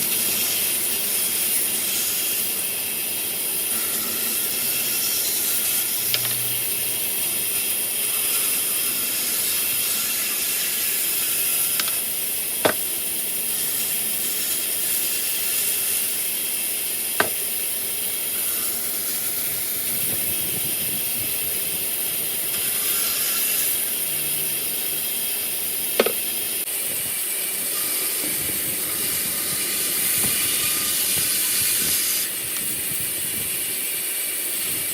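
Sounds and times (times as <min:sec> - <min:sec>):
woodworking machine hissing: 0:00.0 - 0:34.9.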